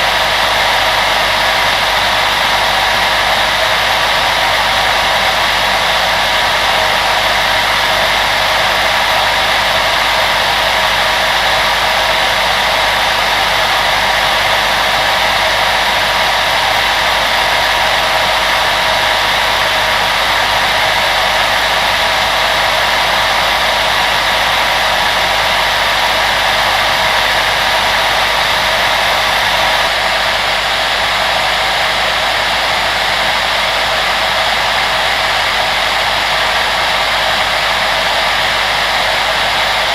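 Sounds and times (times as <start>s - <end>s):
electric fan blowing air: 0.0s - 39.9s.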